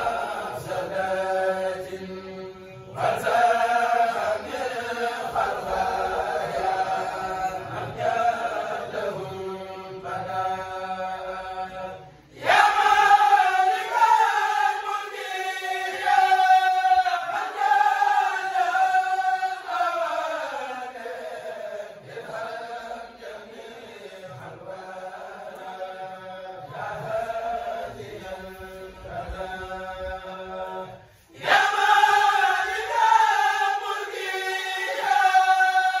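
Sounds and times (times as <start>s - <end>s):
men chanting together: 0.0s - 36.0s.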